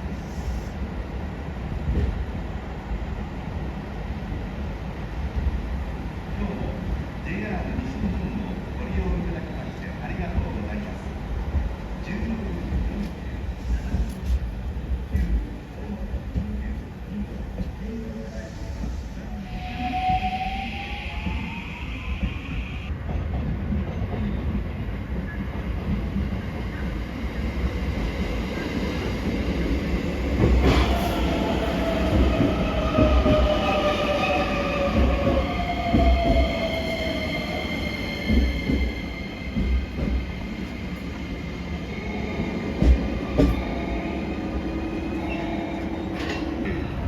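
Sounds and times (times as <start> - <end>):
electric train rumbling: 0.0 - 47.0.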